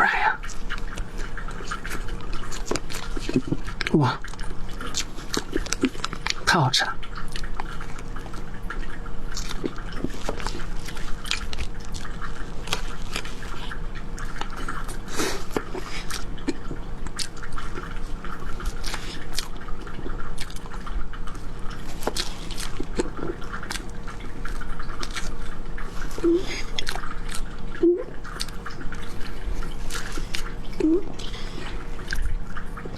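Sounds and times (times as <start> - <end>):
person chewing wetly: 0.0 - 32.9.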